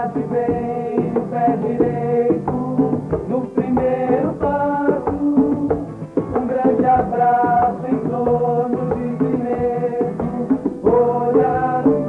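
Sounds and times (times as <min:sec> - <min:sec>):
acoustic guitar strummed: 0:00.0 - 0:12.0
hand drum struck: 0:00.0 - 0:12.0
voices singing together: 0:00.0 - 0:12.0.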